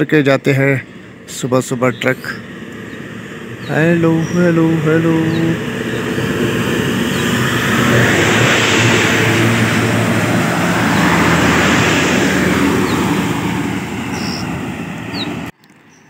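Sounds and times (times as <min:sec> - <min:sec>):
tyre and road noise: 0:00.0 - 0:15.7
vehicle driving past: 0:00.8 - 0:15.5.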